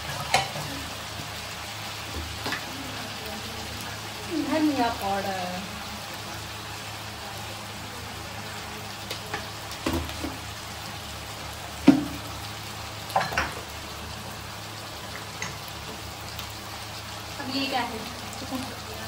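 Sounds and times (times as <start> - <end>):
spices sizzling in pan: 0.0 - 19.0.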